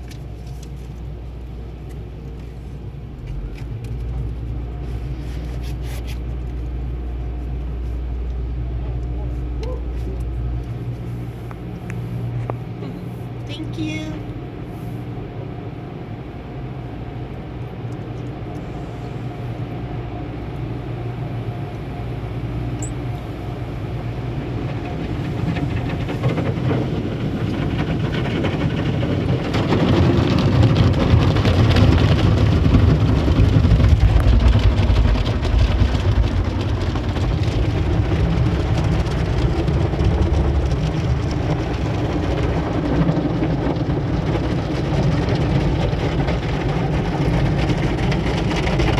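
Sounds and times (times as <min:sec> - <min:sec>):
car wash machinery rumble: 0:00.0 - 0:48.9.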